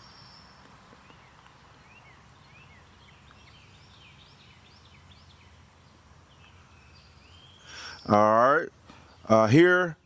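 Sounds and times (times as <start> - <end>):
faint birdsong chirps: 0.0 - 10.0.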